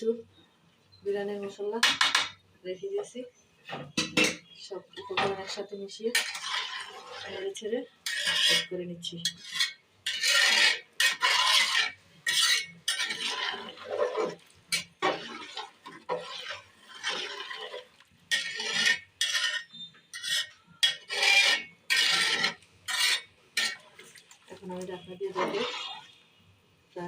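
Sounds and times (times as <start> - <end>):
spoon scraping a cooking pot: 3.8 - 26.2.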